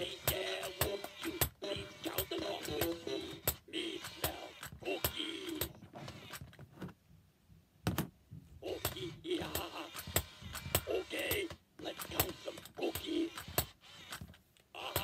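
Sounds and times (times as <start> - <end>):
toy talking through small speaker: 0.0 - 6.4, 8.6 - 14.1, 14.7 - 15.0
toy motor clicking and whirring: 0.0 - 6.6, 8.6 - 15.0.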